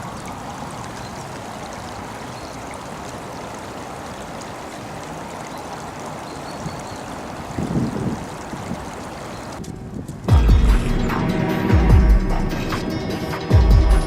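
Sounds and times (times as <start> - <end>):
brook water rushing: 0.0 - 13.8.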